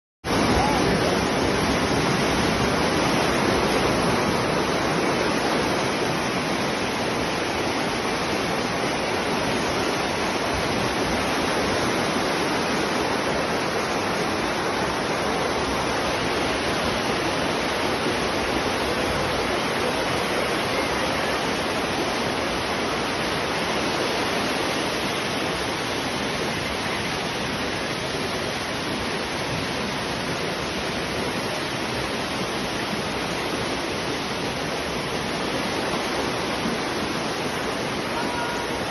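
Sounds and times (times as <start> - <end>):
floodwater rushing: 0.2 - 38.9.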